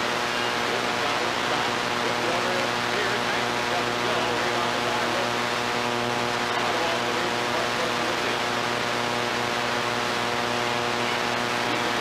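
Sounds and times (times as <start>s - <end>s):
electrical hum: 0.0s - 12.0s
tape hiss: 0.0s - 12.0s.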